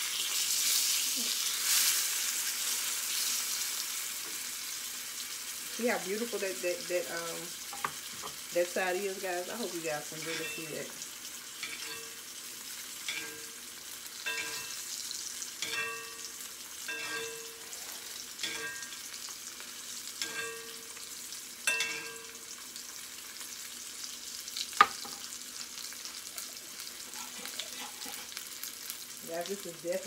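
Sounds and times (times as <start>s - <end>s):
fish sizzling in skillet: 0.0s - 30.0s.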